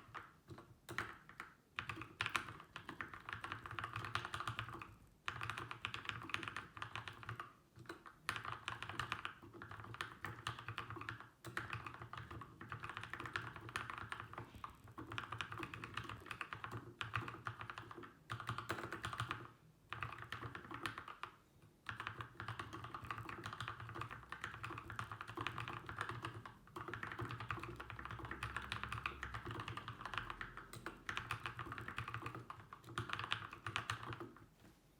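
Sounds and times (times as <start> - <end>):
fast typing on mechanical keyboard: 0.0 - 34.4.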